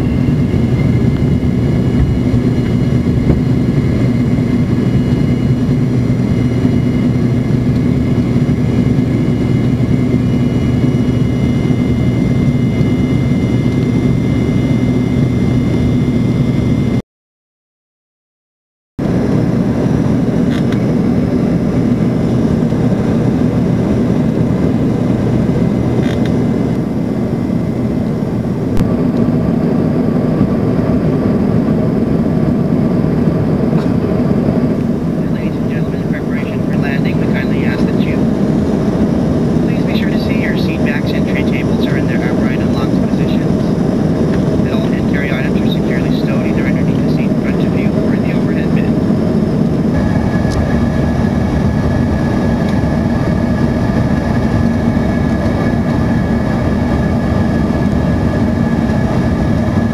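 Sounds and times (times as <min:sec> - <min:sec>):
faint high whine: 0:00.0 - 0:17.0, 0:19.1 - 0:59.9
jet cabin roar: 0:00.0 - 0:17.0, 0:19.0 - 0:59.9.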